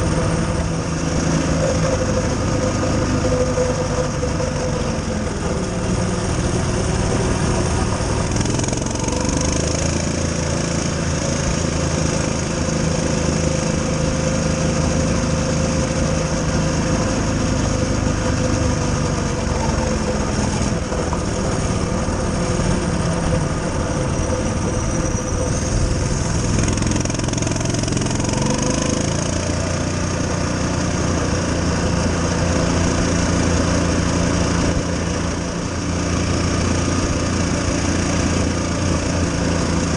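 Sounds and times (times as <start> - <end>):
mini bike engine revving: 0.0 - 39.9.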